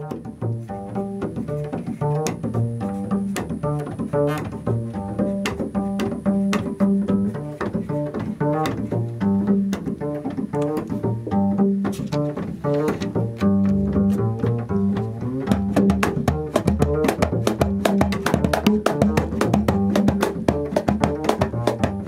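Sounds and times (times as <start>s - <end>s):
hand percussion knocks: 0.0s - 22.0s
upright bass plucked riff: 0.0s - 22.0s.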